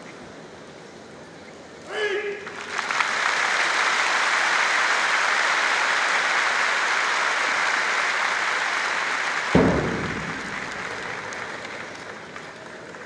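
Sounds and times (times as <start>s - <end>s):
crowd applauding: 2.4s - 13.0s.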